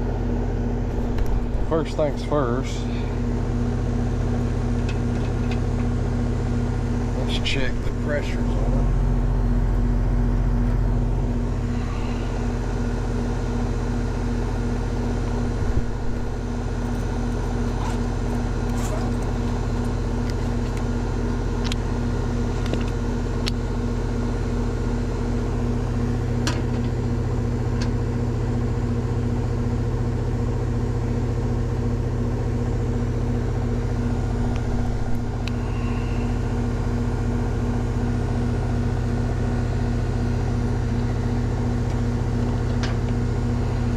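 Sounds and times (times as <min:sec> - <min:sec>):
heat pump unit humming: 0:00.0 - 0:43.9.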